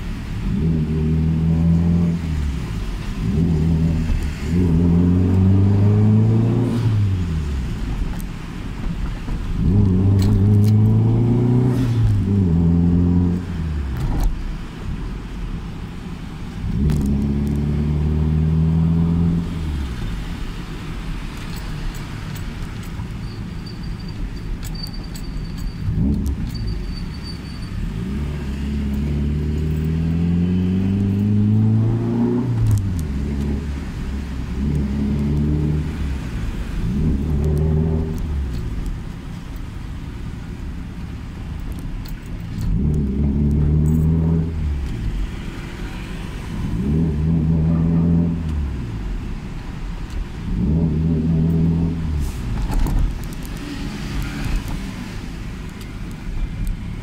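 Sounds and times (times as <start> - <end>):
car engine accelerating: 0.0 - 8.0, 9.5 - 14.4, 16.6 - 20.4, 27.7 - 57.0.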